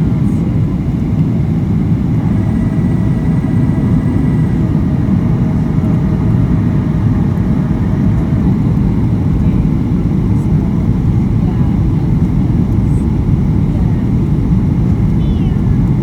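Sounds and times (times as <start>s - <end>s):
aircraft cabin engine roar: 0.0s - 16.0s
faint steady whines: 0.0s - 16.0s.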